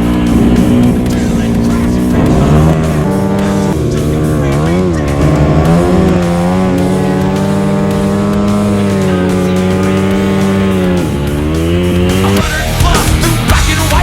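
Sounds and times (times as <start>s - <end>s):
motorcycle engine at high revs: 0.0s - 14.0s
rock music: 0.0s - 14.0s.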